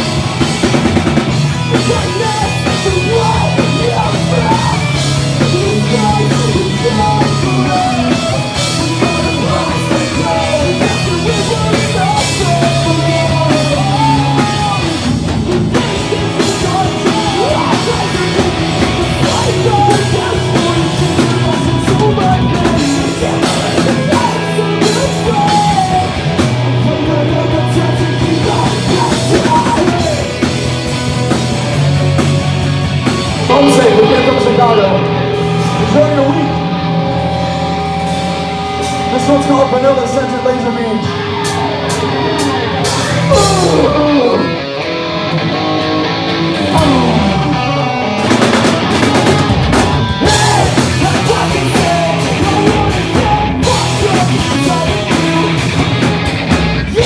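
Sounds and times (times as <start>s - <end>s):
drum kit: 0.0s - 57.0s
electric guitars: 0.0s - 57.0s
person singing: 1.6s - 30.7s, 33.4s - 37.4s, 38.7s - 56.3s.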